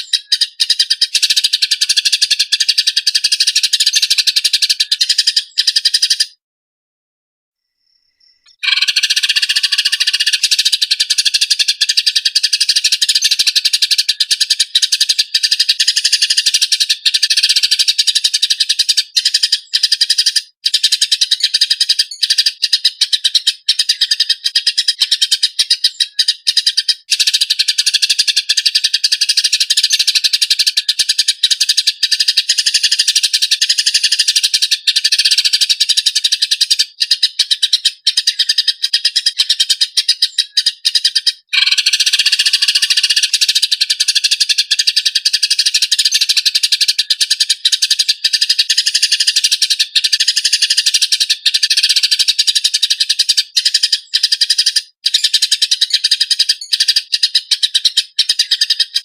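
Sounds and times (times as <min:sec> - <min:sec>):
sparrows chirping harshly: 0:00.0 - 0:06.4, 0:07.6 - 0:59.0.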